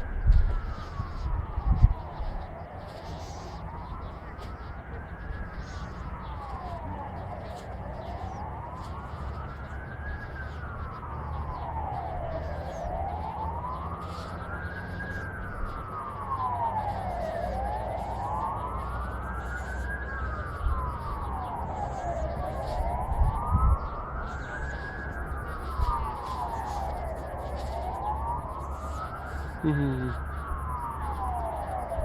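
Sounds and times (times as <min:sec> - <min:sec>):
wailing siren: 0:00.0 - 0:32.0.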